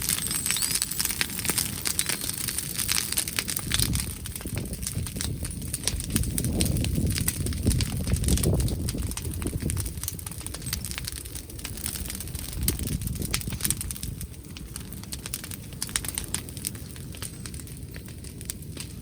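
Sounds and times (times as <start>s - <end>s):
bonfire crackling and popping: 0.0s - 19.0s
low fire rumble: 0.0s - 19.0s.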